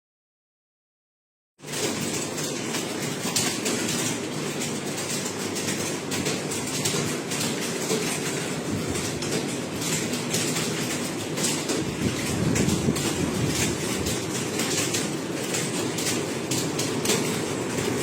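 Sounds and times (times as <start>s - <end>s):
fast typing on keyboard: 1.6s - 18.0s.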